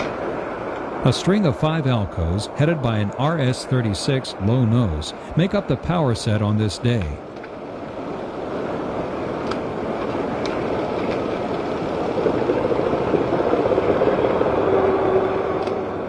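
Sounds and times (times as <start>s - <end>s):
diesel locomotive engines: 0.0s - 16.0s
train rail noise: 0.0s - 16.0s.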